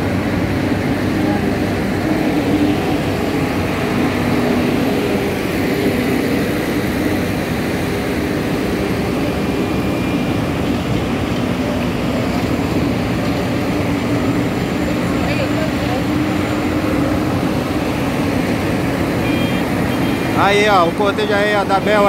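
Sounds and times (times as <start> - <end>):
diesel engines humming: 0.0 - 22.0.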